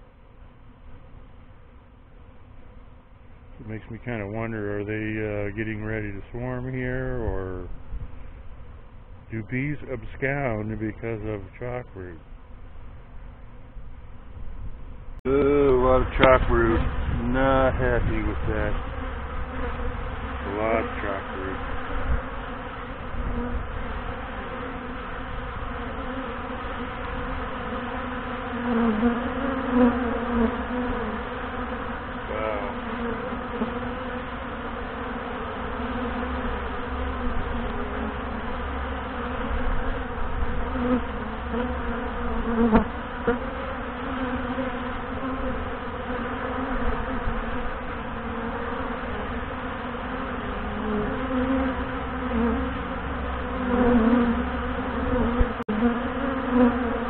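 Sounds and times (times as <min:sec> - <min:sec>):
honey bees buzzing: 0:00.0 - 0:57.0.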